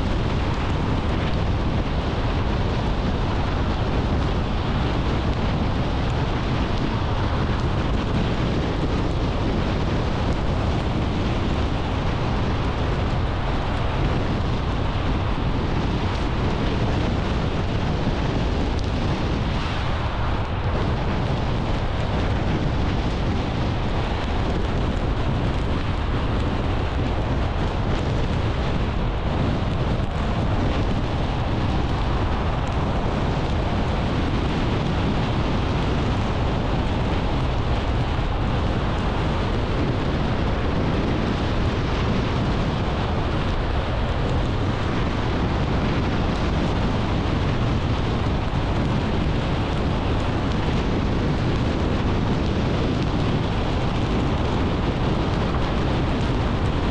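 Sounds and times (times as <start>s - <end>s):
car road and wind noise: 0.0s - 56.9s.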